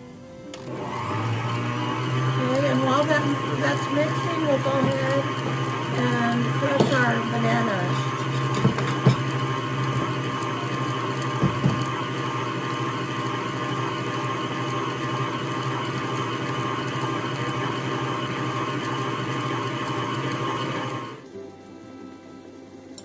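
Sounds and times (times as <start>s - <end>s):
stand mixer motor humming: 0.5s - 21.2s.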